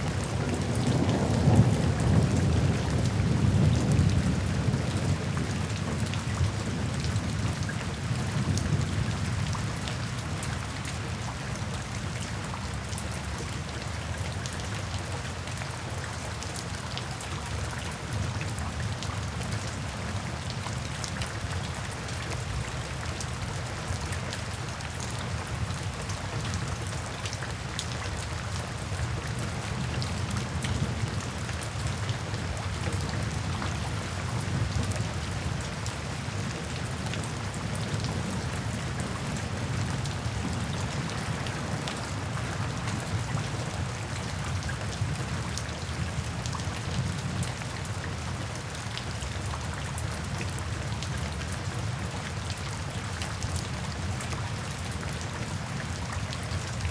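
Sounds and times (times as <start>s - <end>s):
low rain rumble: 0.0s - 56.9s
rain drops hitting: 0.0s - 56.9s.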